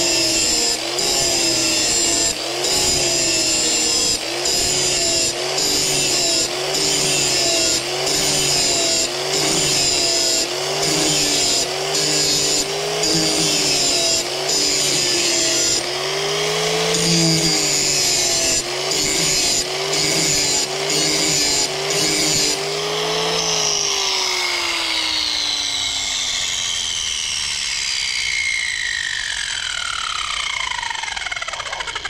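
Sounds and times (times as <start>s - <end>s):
angle grinder grinding metal: 0.0s - 32.0s
motor winding down whine: 0.0s - 32.0s.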